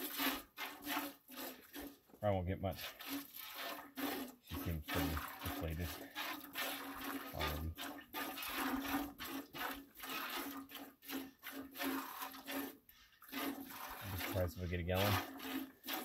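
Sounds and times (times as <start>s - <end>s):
milk squirting into metal pot: 0.0s - 16.0s.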